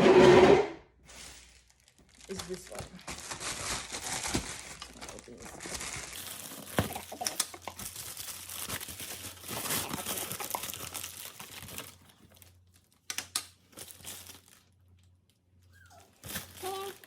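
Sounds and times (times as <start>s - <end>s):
mailer bag crinkling: 1.0s - 15.2s, 15.9s - 17.0s.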